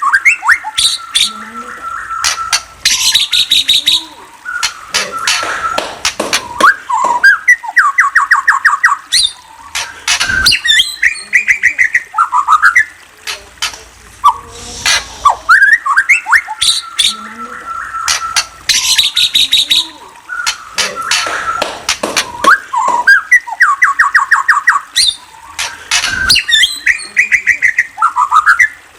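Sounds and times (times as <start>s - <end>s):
sharp bird clicking calls: 0.0s - 28.8s
songbird singing: 0.0s - 28.9s.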